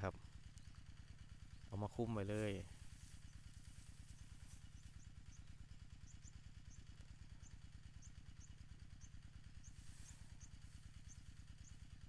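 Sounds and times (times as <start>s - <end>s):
distant small engine hum: 0.0s - 12.0s.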